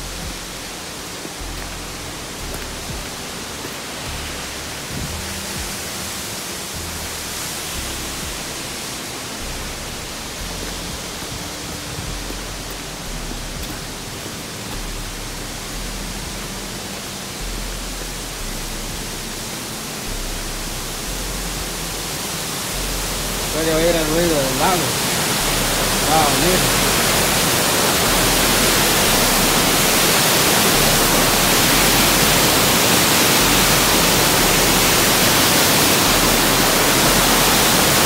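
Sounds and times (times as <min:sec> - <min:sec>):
low rumble: 0:00.0 - 0:35.4
waterfall rushing hiss: 0:00.0 - 0:38.0.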